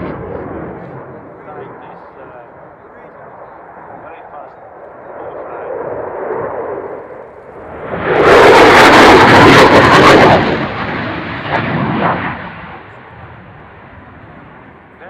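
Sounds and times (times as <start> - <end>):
jet engines roaring past: 0.0 - 15.0.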